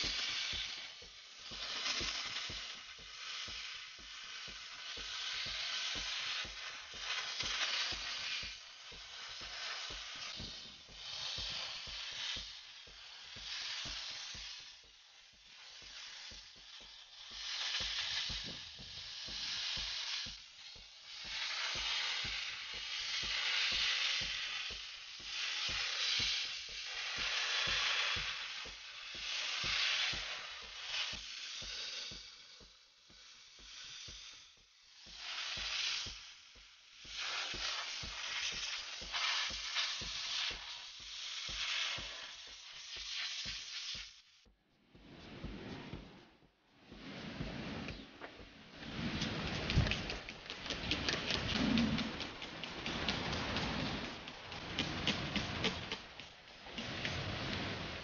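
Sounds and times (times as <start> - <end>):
steam jet hissing: 0.0 - 58.0.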